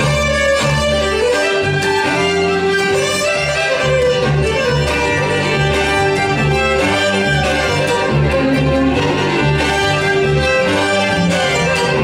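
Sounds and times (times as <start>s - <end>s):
fiddles bowing a tune: 0.0s - 12.0s
upright bass walking line: 0.0s - 12.0s.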